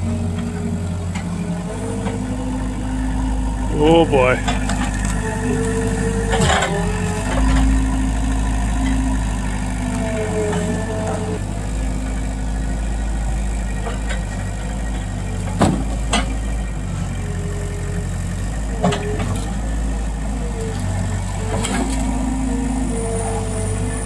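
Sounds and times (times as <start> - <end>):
skid-steer loader engine running: 0.0 - 24.0.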